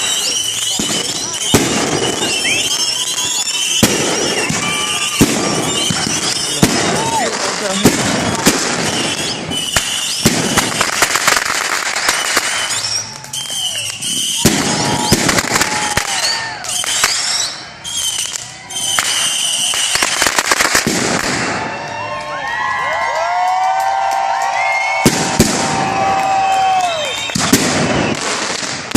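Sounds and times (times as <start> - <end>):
fireworks whistles: 0.0 - 22.0, 24.4 - 28.9
fireworks crackling and popping: 0.0 - 28.9.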